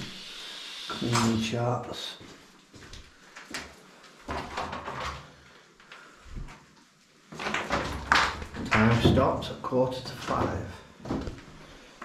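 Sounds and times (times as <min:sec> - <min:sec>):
people moving about on foot: 0:01.0 - 0:04.8, 0:05.7 - 0:12.0.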